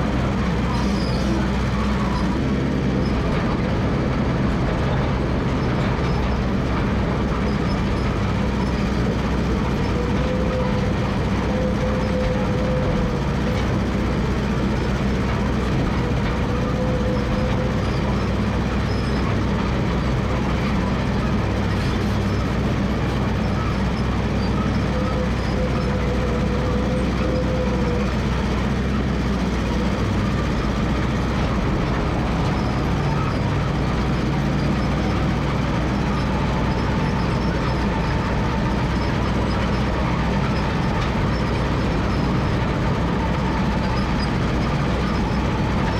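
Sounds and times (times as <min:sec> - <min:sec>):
crawler dozer engine running: 0:00.0 - 0:45.9.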